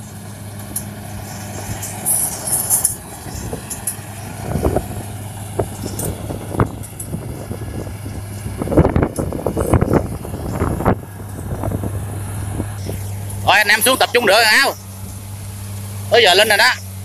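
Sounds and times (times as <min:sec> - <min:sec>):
combine harvester engine hum: 0:00.0 - 0:17.0.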